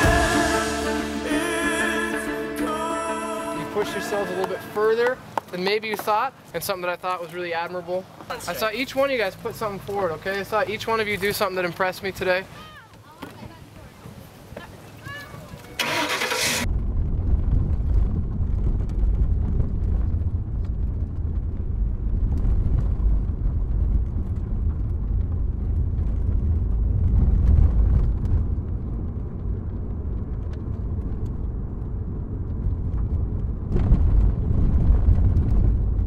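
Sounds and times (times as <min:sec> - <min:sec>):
engine and road rumble: 0:00.0 - 0:13.2, 0:15.6 - 0:36.0.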